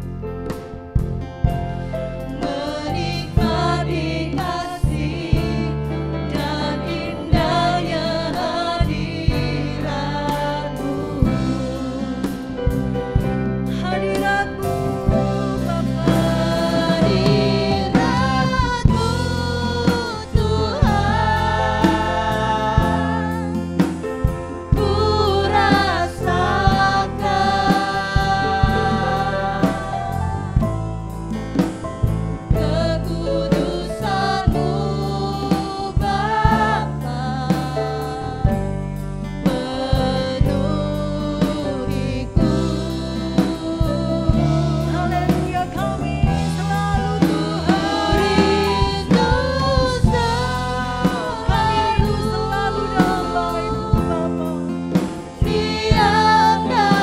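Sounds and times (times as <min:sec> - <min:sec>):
drums: 0:00.0 - 0:57.0
worship band playing: 0:00.0 - 0:57.0
people singing in parts: 0:01.9 - 0:57.0.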